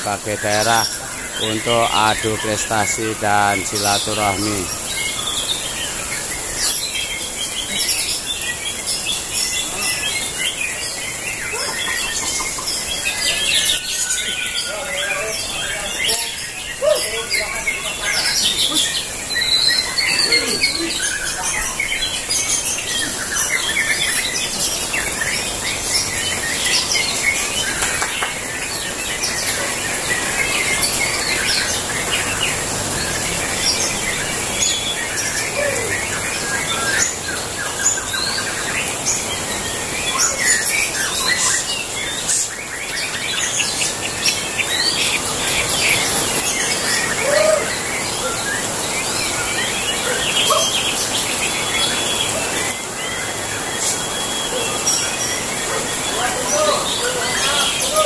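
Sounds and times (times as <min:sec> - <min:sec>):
many birds singing: 0:00.0 - 0:58.0.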